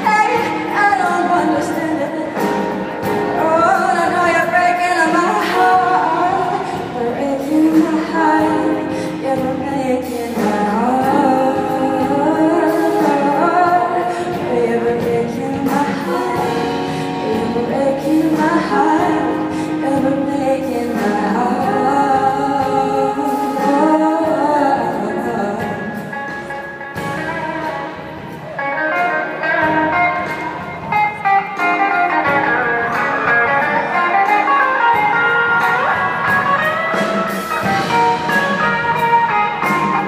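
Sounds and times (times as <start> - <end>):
band playing pop music: 0.0 - 40.0
person singing: 0.0 - 40.0.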